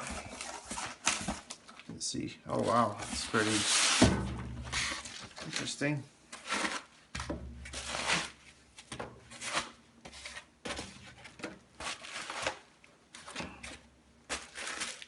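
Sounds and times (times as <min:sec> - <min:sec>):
packaging rustling: 0:00.0 - 0:04.0, 0:04.6 - 0:07.0, 0:09.3 - 0:15.0.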